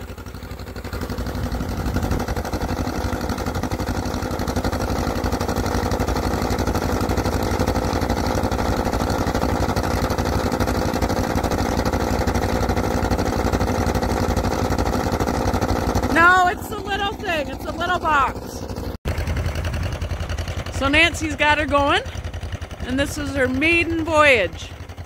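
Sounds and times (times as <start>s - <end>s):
small tractor engine running: 0.0s - 25.0s.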